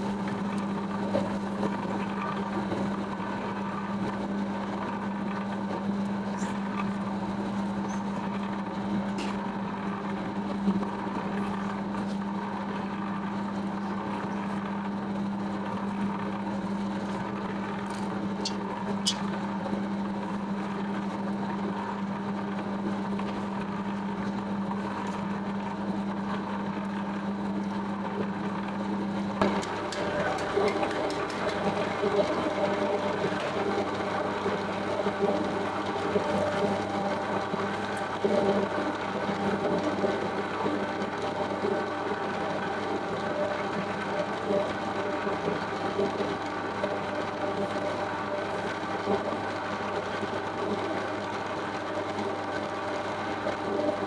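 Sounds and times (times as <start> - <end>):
electric dough mixer whirring: 0.0 - 54.0.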